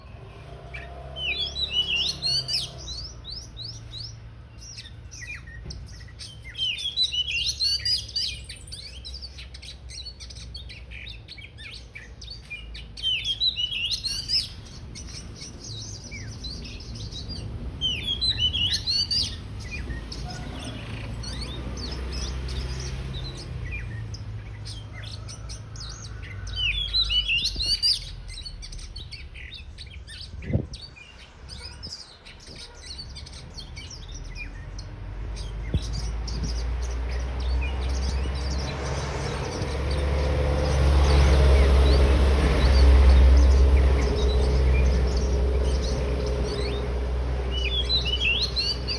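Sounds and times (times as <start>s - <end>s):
bird singing: 0.0s - 48.9s.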